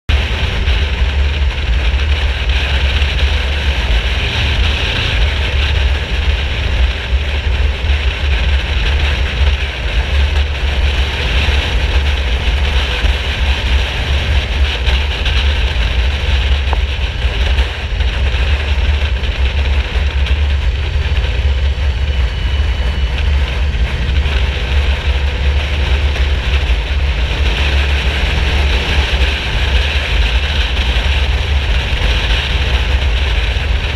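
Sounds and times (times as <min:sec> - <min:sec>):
motorcycle engine rumbling: 0:00.1 - 0:33.9.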